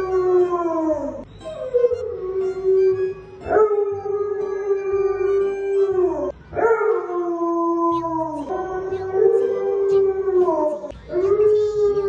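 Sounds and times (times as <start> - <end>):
dogs howling together: 0.0 - 12.0.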